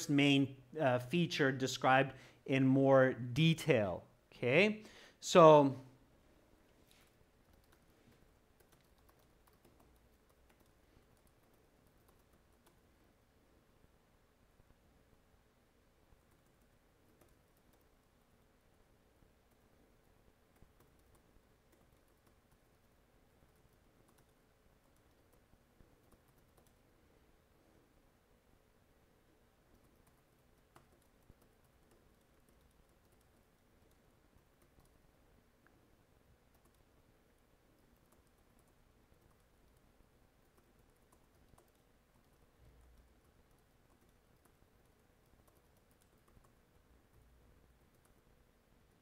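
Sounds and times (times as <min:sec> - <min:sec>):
faint typing on keyboard: 0:00.0 - 0:49.0.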